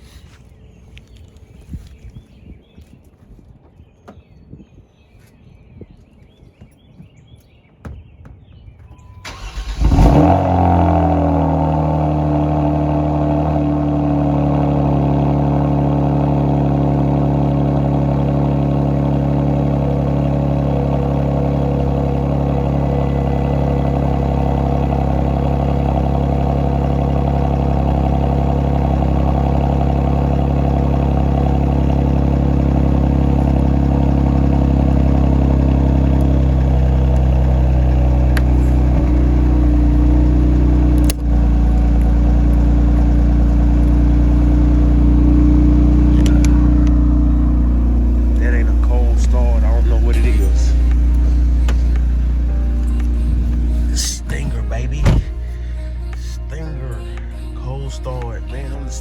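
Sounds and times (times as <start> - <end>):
car engine starting and idling: 8.0 - 59.0.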